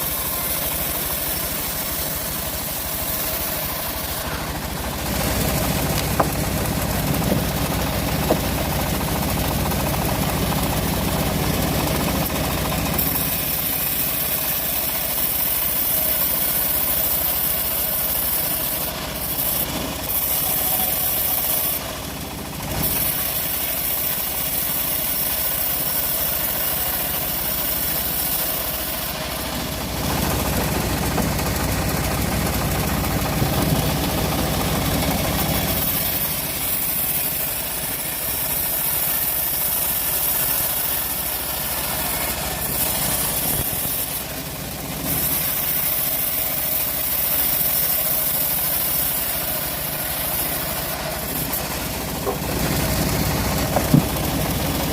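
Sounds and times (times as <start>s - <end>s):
bandsaw sawmill running: 0.0s - 54.9s.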